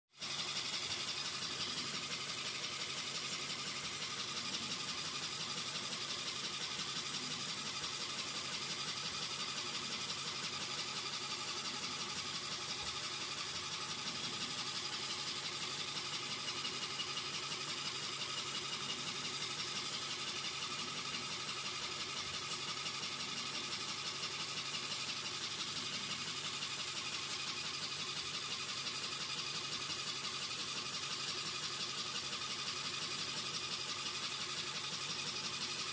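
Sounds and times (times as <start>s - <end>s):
small electric motor rattling: 0.2s - 35.9s.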